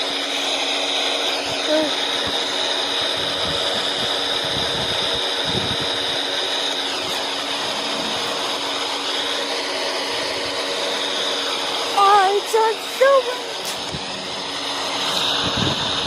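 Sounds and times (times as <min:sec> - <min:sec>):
table fan running: 0:00.0 - 0:16.0.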